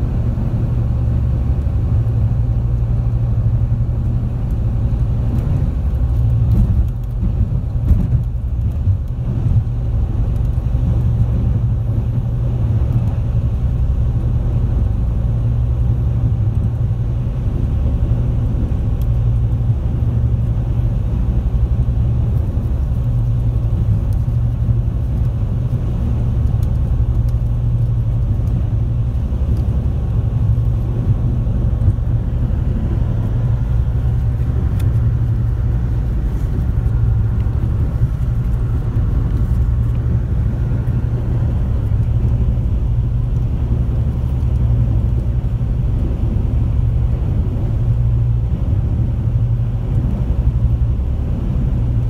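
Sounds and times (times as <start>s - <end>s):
boat engines droning: 0.0s - 52.0s
hull and water noise: 0.0s - 52.0s.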